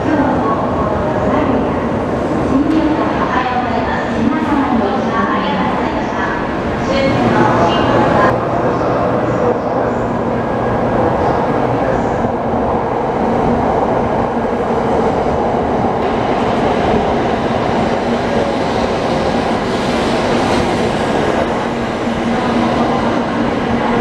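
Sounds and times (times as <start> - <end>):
bullet train passing: 0.0 - 24.0.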